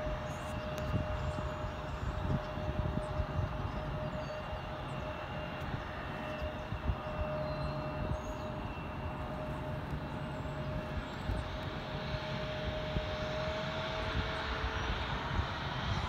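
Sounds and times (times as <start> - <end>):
distant jet engines whining: 0.0 - 16.0.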